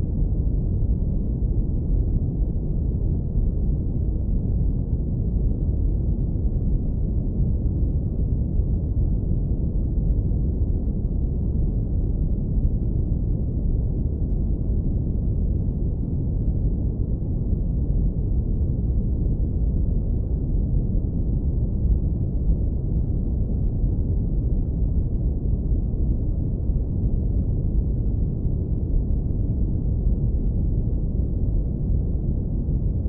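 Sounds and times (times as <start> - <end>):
deep even brown noise rumble: 0.0 - 33.0.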